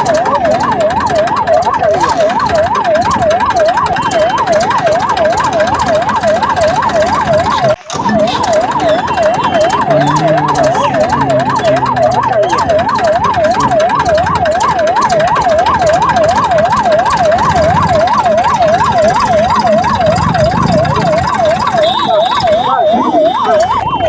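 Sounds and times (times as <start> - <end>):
electronic siren yelping: 0.0 - 24.0.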